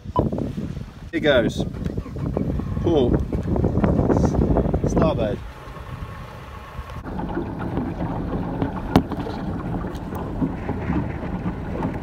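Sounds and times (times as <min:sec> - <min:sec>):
wind on microphone: 0:00.0 - 0:12.0
outboard engines running: 0:01.2 - 0:12.0.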